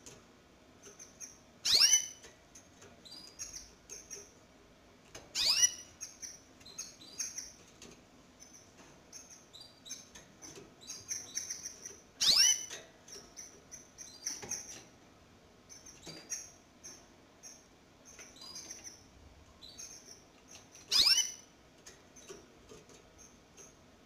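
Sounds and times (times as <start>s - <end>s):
canaries chirping: 0.8s - 4.5s, 5.1s - 23.8s.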